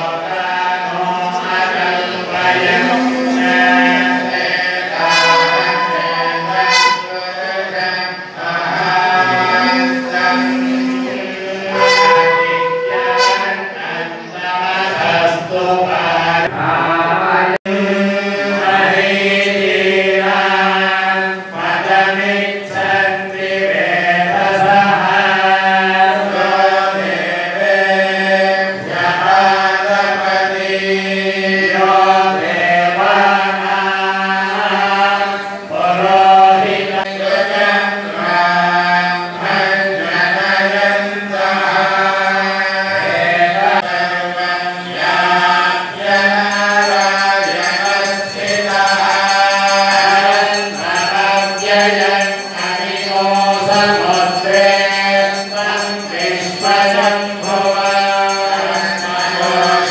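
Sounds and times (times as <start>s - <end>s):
men chanting in unison: 0.0s - 59.9s.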